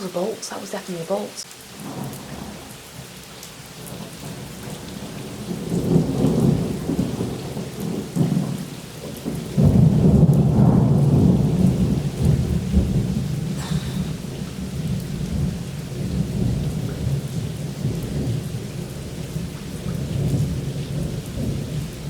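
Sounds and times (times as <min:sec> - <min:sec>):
steady rain: 0:00.0 - 0:22.0
thunder rolling: 0:01.8 - 0:03.2, 0:03.8 - 0:22.0.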